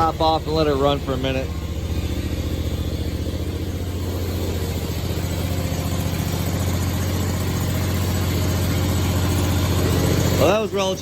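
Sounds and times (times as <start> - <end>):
mower engine running: 0.0 - 11.0.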